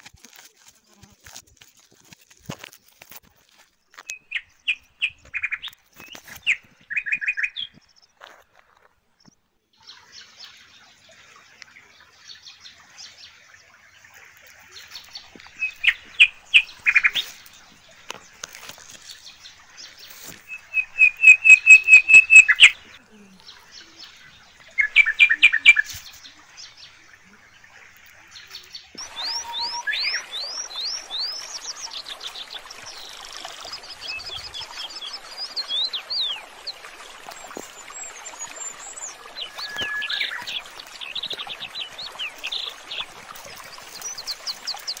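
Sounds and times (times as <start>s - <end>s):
small birds singing and trilling: 3.8s - 8.5s, 9.2s - 45.0s.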